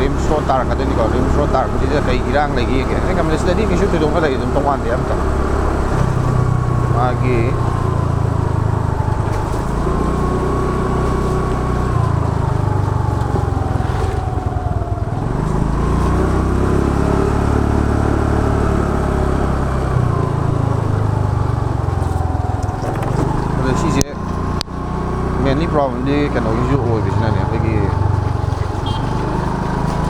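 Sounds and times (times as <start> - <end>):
scooter engine running: 0.0 - 30.0.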